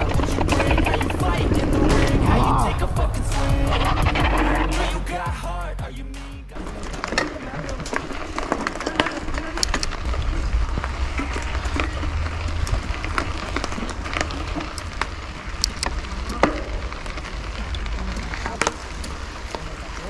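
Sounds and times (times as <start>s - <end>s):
wind buffeting microphone: 0.0s - 4.6s, 6.6s - 20.0s
bicycle clicks and crackles: 0.0s - 4.9s, 6.6s - 20.0s.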